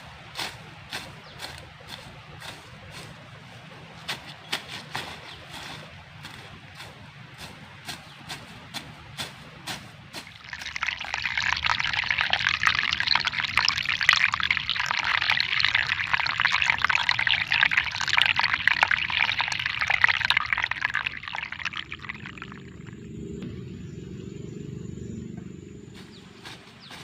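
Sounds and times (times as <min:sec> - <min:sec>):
water splashing and trickling: 0:00.0 - 0:23.4.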